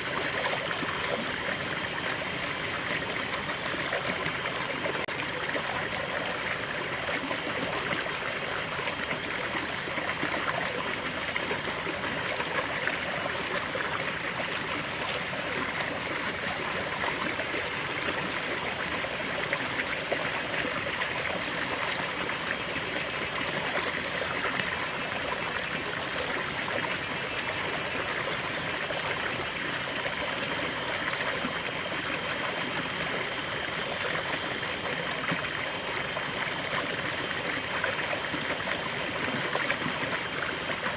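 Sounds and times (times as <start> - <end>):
waterfall and stream flowing: 0.0 - 40.9.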